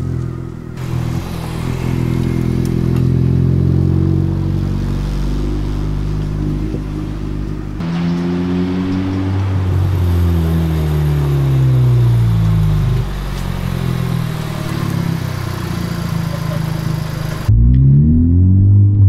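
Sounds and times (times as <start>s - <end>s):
car engine driving up: 0.0s - 19.0s.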